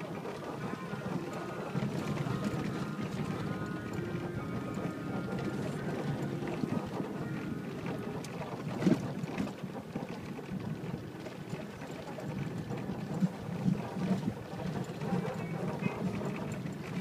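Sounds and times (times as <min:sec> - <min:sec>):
tyres rumbling on dirt road: 0:00.0 - 0:17.0.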